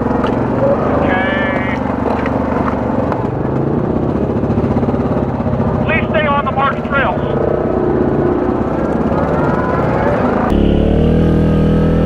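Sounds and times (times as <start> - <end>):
quad engine running at low revs: 0.0 - 12.0.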